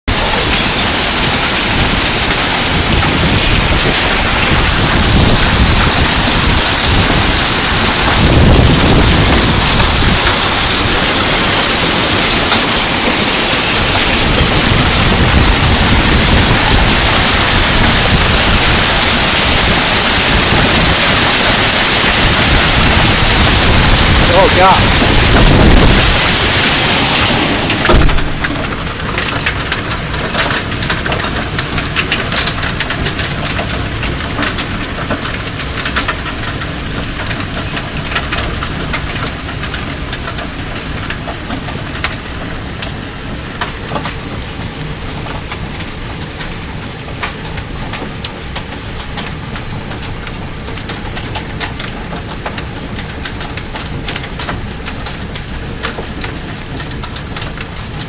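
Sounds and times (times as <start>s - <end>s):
hail striking surfaces: 0.1s - 58.0s
rain hissing: 0.1s - 58.0s.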